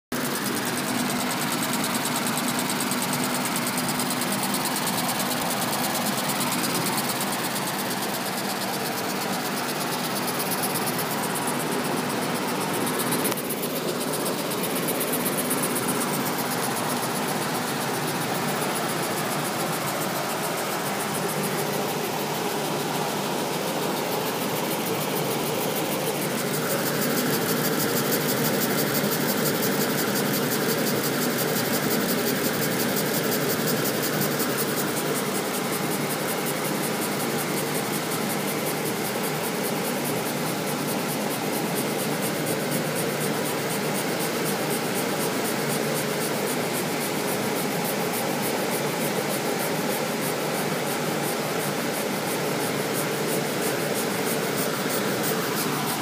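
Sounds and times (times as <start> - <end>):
steam hiss: 0.2 - 56.0.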